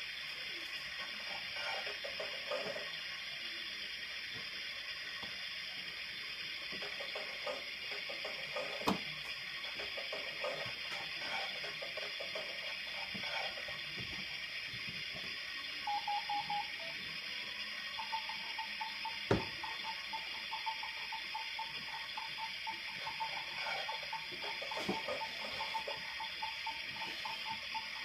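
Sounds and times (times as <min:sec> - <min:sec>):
steady hiss: 0:00.0 - 0:28.0
toy kitchen electronic beeps: 0:01.0 - 0:04.0, 0:06.3 - 0:14.1, 0:15.0 - 0:28.0.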